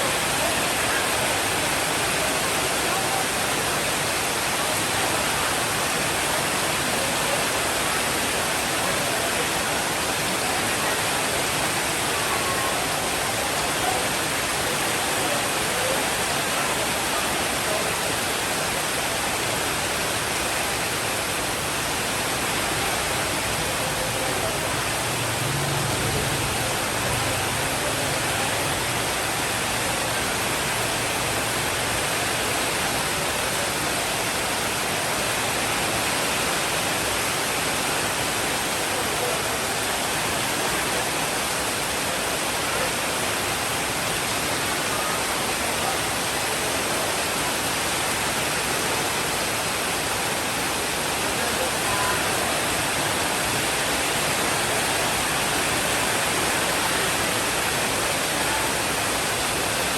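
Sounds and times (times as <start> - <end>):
rainfall hiss: 0.0 - 59.9.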